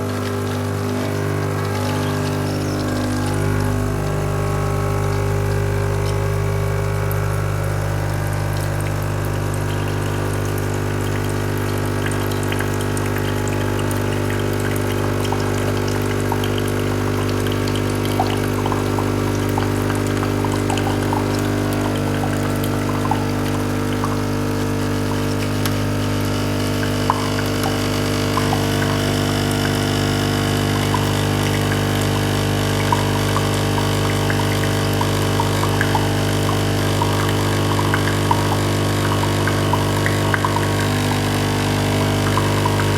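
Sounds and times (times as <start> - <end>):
coffee machine pump humming: 0.0 - 42.9
liquid crackles and drips: 0.0 - 42.9.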